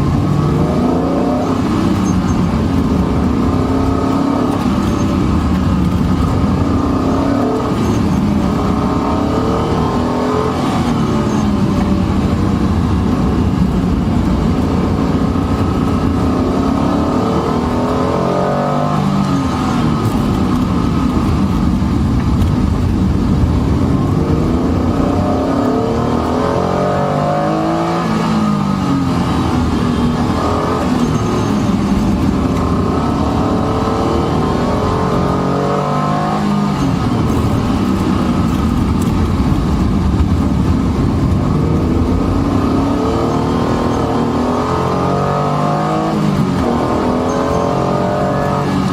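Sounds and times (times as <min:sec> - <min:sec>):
car engine accelerating: 0:00.0 - 0:48.9
road and wind noise: 0:00.0 - 0:48.9.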